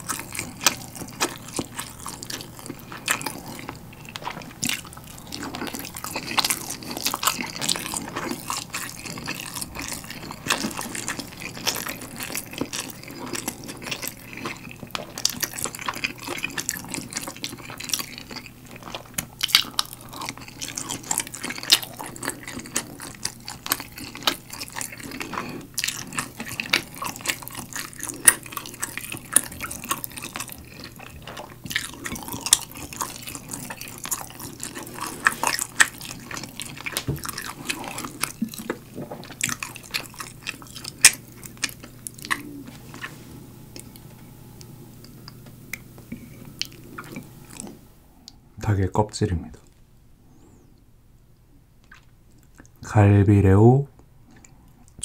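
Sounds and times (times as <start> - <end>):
chewing: 0.0 - 48.4, 51.8 - 52.8, 54.0 - 55.0.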